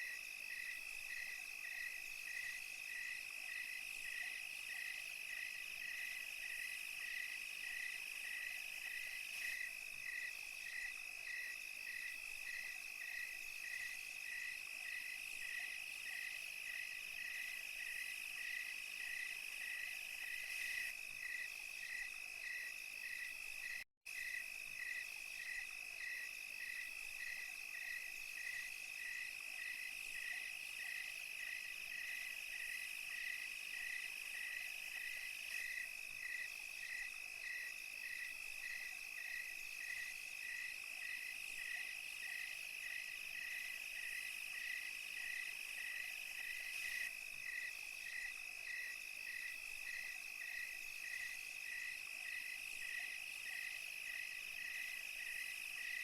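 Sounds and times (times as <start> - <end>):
cricket chirps: 0.0 - 56.0
crickets trilling: 0.0 - 56.0.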